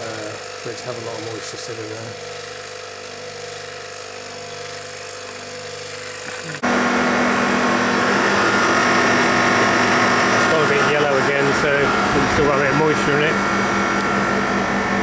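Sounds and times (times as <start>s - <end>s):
mechanical hum with steady tones: 0.0s - 15.0s
refrigeration unit running with whine: 0.0s - 15.0s.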